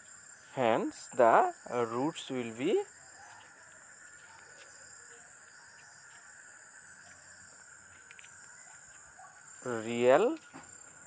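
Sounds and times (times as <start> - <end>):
faint high-pitched background noise: 0.0 - 11.0.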